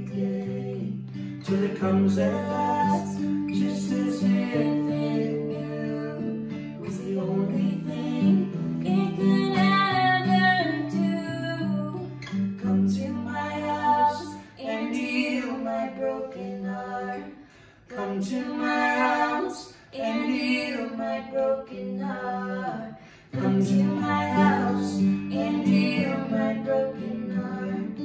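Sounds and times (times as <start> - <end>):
acoustic guitar playing: 0.0 - 28.0
girl singing: 0.0 - 28.0.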